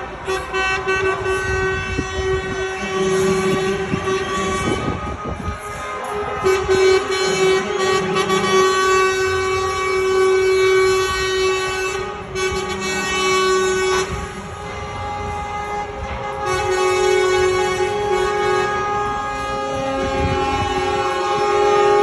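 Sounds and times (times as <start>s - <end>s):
truck air horn blast: 0.0s - 22.0s.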